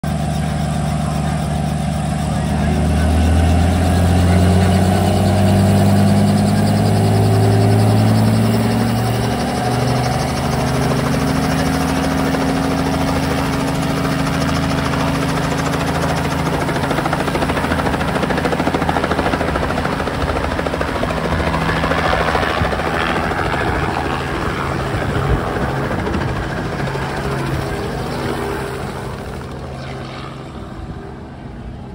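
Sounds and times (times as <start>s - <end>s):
helicopter engine drone: 0.0s - 31.9s
helicopter rotor turning: 0.1s - 31.9s.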